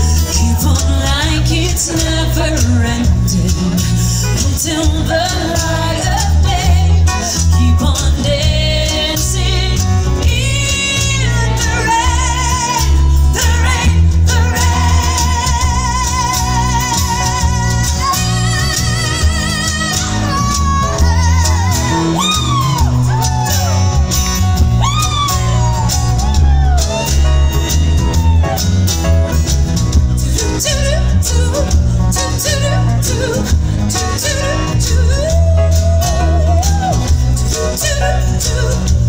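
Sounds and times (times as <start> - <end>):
live pop-rock band: 0.0 - 39.0
woman singing with vibrato: 0.1 - 23.8, 30.2 - 39.0.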